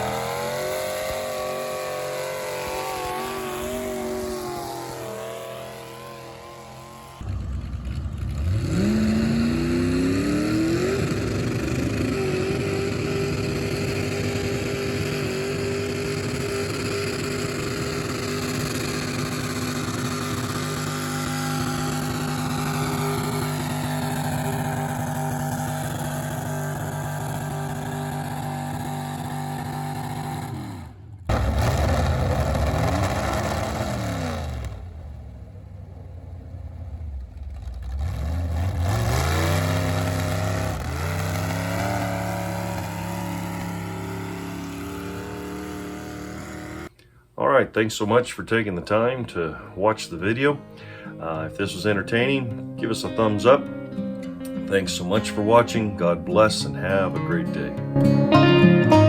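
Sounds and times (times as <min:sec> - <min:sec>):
tractor engine revving: 0:00.0 - 0:47.0, 0:48.6 - 0:59.0.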